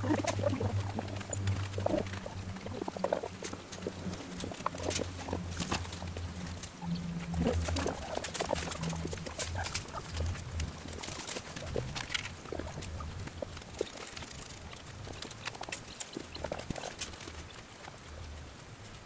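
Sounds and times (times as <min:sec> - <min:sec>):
chickens clucking: 0:00.0 - 0:17.6
steady low hum: 0:00.0 - 0:19.0.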